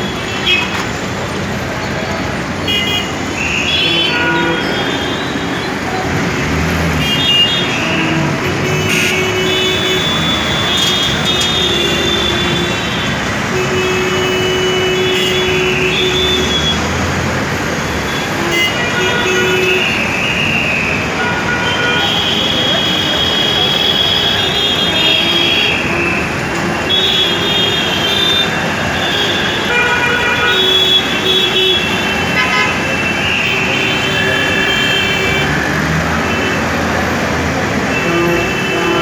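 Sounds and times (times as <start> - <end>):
vehicle horns honking: 0.0 - 1.1, 2.2 - 17.0, 17.9 - 39.0
engine and road rumble: 0.0 - 39.0.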